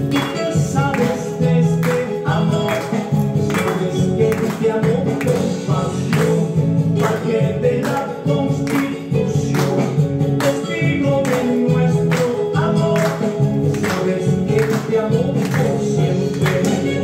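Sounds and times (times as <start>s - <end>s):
dance music with steady beat: 0.0s - 17.0s
people singing: 0.0s - 17.0s.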